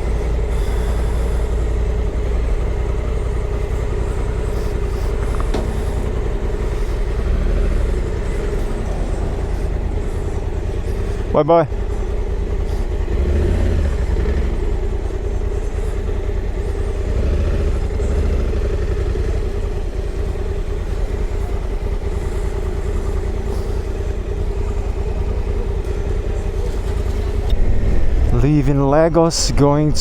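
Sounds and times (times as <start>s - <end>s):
motorcycle engine running: 0.0s - 30.0s
road and wind noise: 0.0s - 30.0s.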